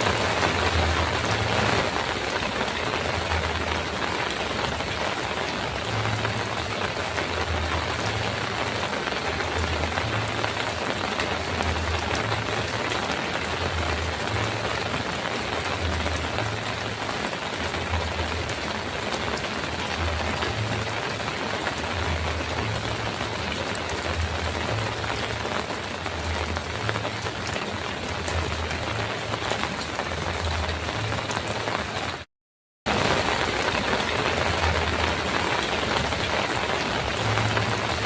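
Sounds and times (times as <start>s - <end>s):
heavy rain on a metal roof: 0.0s - 38.0s.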